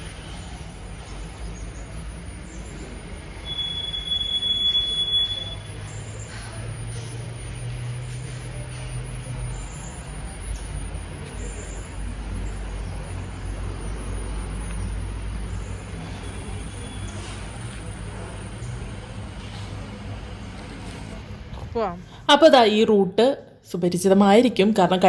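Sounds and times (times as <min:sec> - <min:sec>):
scooter engine humming: 0:00.0 - 0:22.5
road and wind noise: 0:00.0 - 0:22.9.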